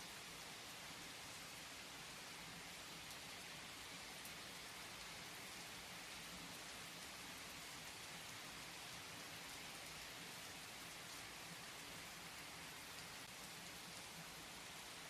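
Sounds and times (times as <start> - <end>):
faint rain patter: 0.0 - 15.0.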